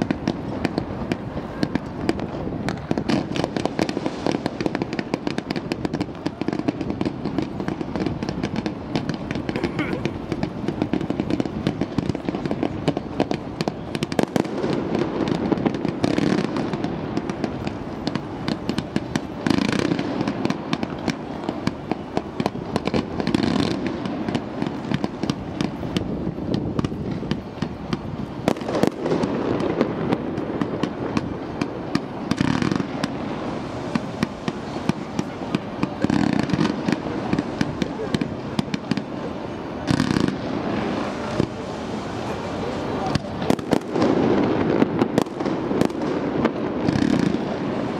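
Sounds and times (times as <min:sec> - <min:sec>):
fireworks crackling and popping: 0:00.0 - 0:47.9
loud fireworks bangs: 0:00.0 - 0:47.9.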